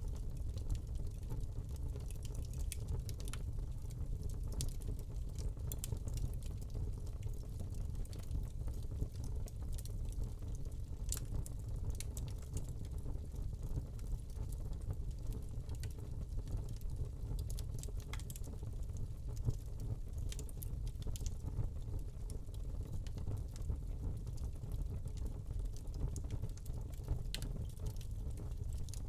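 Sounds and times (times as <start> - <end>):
burning log crackling: 0.0 - 29.0.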